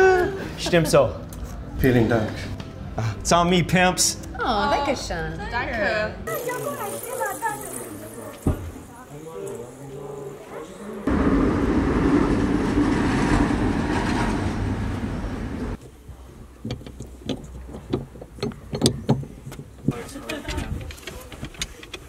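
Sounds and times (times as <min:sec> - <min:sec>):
street vehicle noise: 0:00.0 - 0:22.0.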